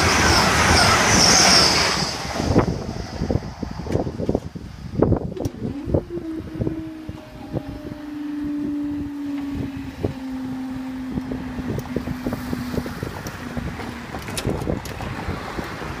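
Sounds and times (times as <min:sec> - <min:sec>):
train motor hum: 0:00.0 - 0:16.0
wind buffeting microphone: 0:00.0 - 0:16.0.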